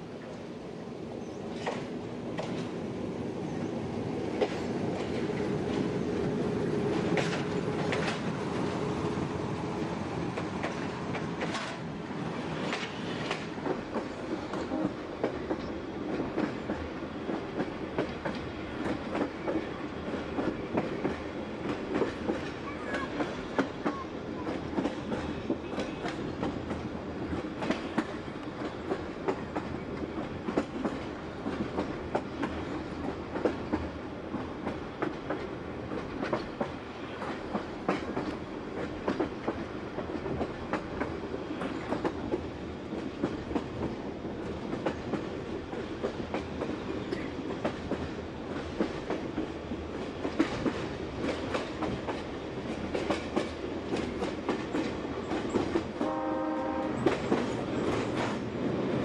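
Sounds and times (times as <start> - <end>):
train rumbling: 0.0 - 59.0
wheels clicking over rail joints: 4.3 - 8.7, 10.3 - 11.9, 12.6 - 56.2.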